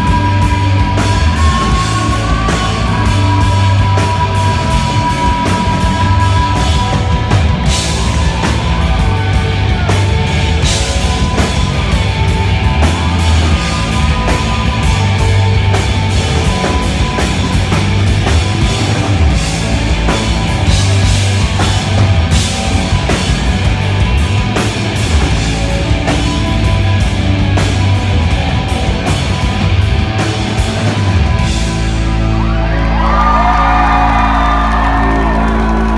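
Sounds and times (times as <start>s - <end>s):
bass guitar: 0.0s - 35.9s
drum kit played hard: 0.0s - 35.9s
electric guitars: 0.0s - 35.9s.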